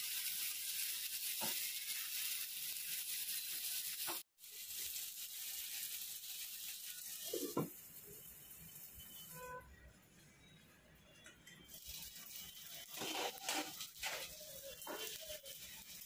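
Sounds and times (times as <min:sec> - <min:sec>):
chicken sizzling in oil: 0:00.0 - 0:09.4, 0:11.7 - 0:16.0.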